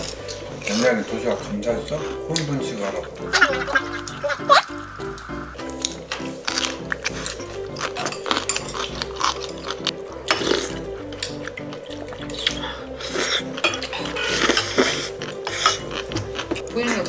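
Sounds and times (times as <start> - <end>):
spoon and chopsticks clinking dishes: 0.0 - 4.6, 5.8 - 12.6, 13.4 - 17.0
repeating background music: 0.0 - 17.0.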